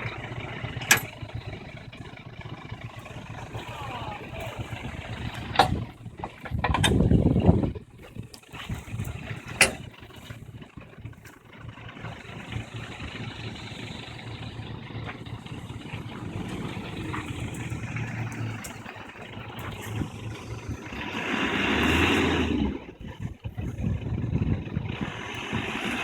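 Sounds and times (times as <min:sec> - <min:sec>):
off-road engine running: 0:00.0 - 0:26.0.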